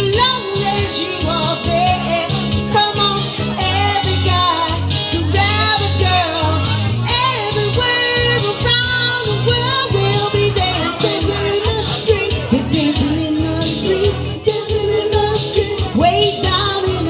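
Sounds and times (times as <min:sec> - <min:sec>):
electronic keyboard with bass line: 0:00.0 - 0:17.0
woman singing into a microphone: 0:00.0 - 0:17.0.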